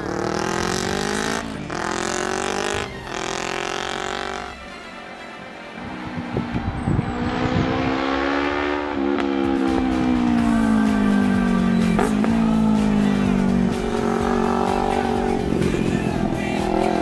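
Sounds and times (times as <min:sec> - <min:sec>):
motorcycle engine: 0:00.0 - 0:05.0, 0:05.7 - 0:17.0.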